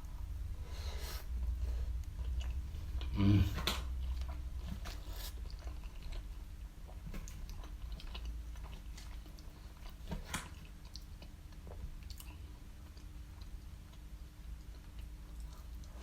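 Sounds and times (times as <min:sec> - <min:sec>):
steady low hum: 0:00.0 - 0:16.0
person chewing food: 0:01.0 - 0:16.0.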